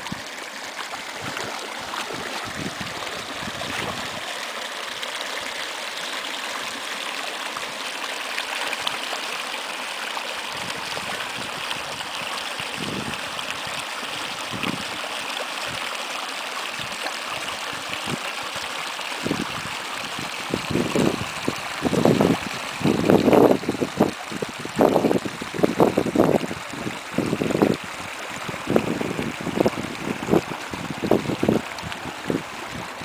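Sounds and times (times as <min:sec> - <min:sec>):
creek running over rocks: 0:00.0 - 0:33.0.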